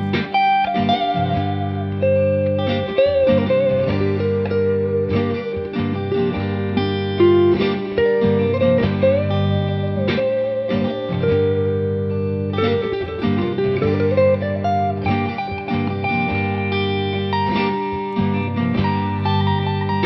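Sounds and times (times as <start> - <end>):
electric guitar lead line: 0.0 - 20.0
steady low guitar notes: 0.0 - 20.0.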